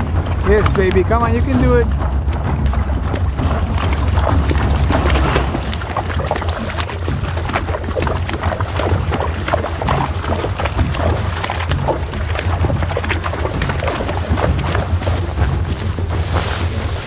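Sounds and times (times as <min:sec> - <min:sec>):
hooves splashing on stones: 0:00.0 - 0:17.0
steady low rumble: 0:00.0 - 0:17.0.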